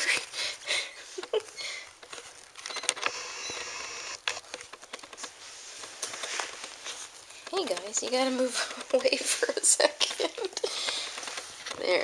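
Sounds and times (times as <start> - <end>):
rustling and scratching on camera: 0.0 - 12.0.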